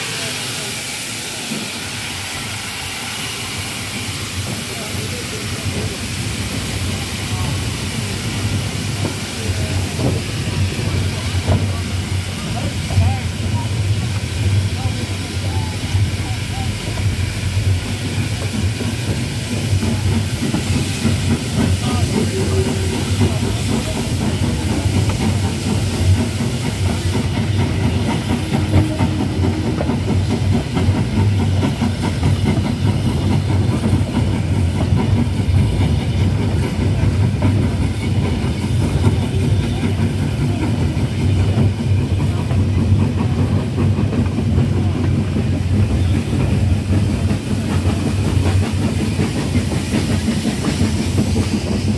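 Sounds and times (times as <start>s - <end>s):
steam engine chuffing: 0.0s - 51.9s.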